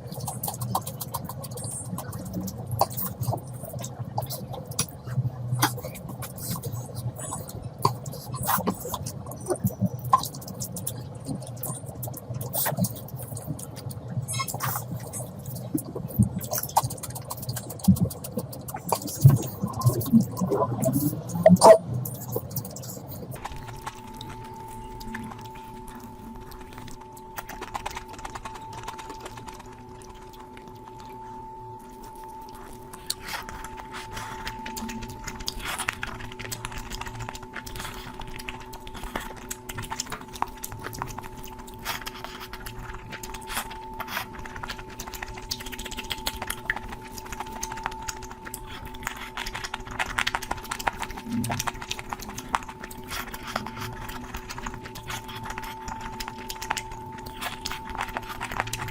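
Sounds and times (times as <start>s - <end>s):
steady hum: 0.0s - 58.9s
wet chewing sounds: 0.0s - 58.9s.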